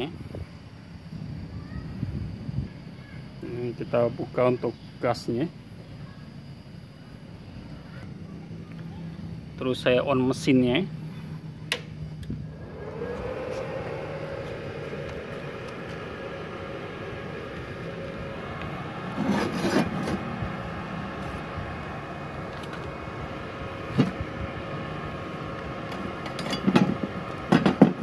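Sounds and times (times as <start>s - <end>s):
welder cooling fan humming: 0.0s - 28.0s.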